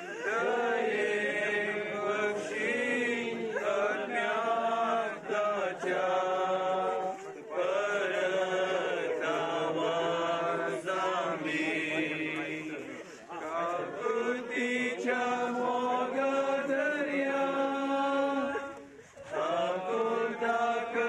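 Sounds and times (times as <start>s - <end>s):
voices singing a hymn: 0.0s - 21.0s.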